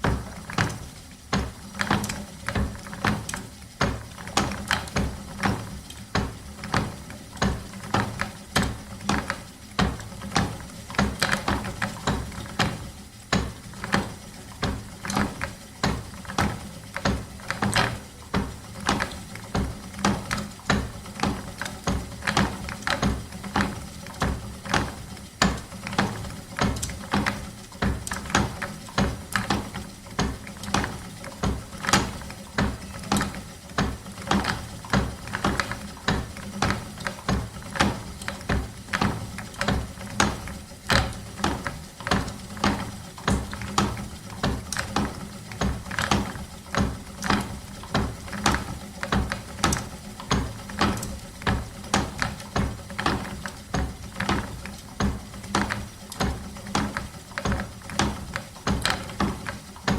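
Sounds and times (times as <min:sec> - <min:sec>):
wooden spinning wheel clacking: 0:00.0 - 0:59.9.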